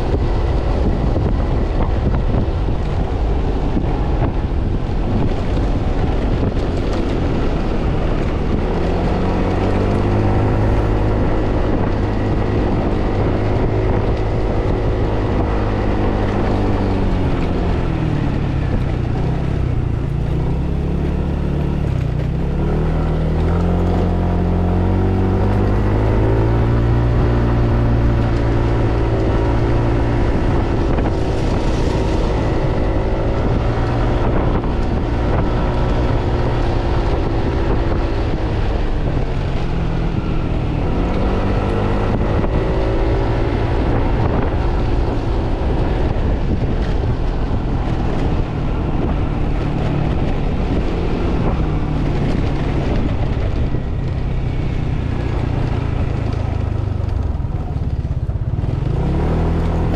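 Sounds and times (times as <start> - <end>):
scooter engine running: 0.0 - 59.9
wind noise on microphone: 0.0 - 59.9.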